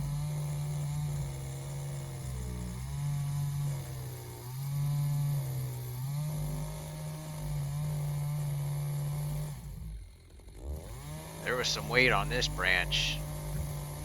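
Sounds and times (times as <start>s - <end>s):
chainsaw cutting wood: 0.0s - 12.6s, 13.2s - 14.0s.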